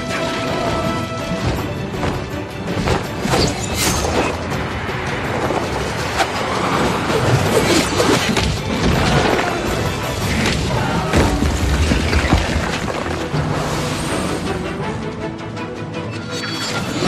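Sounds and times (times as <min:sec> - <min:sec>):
dramatic background music: 0:00.0 - 0:17.0.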